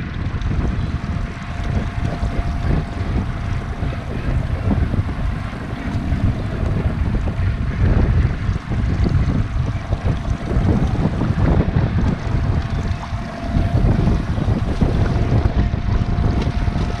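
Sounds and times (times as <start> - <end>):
water lapping against boat: 0.0 - 17.0
wind buffeting microphone: 0.0 - 17.0.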